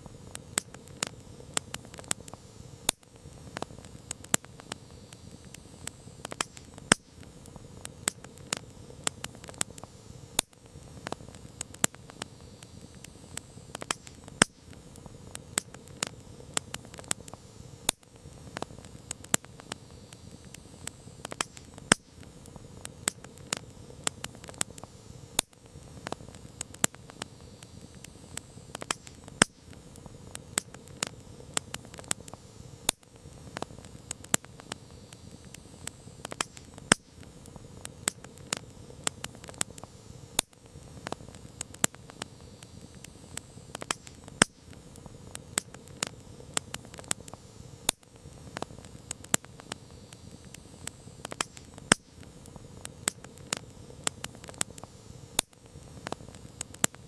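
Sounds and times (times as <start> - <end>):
campfire crackling and popping: 0.0 - 57.0
low hiss of flames: 0.0 - 57.0.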